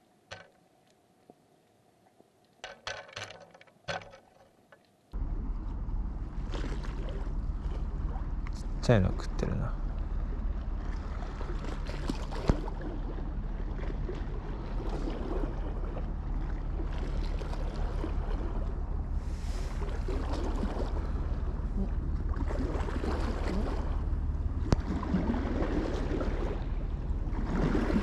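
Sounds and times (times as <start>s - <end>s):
low steady hum: 0.0s - 28.0s
small waves lapping: 4.2s - 28.0s.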